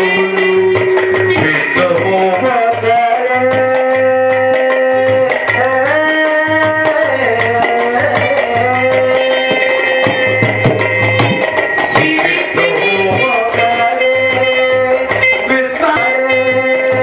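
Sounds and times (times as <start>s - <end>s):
high drone tone: 0.0s - 17.0s
tabla rhythm: 0.0s - 17.0s.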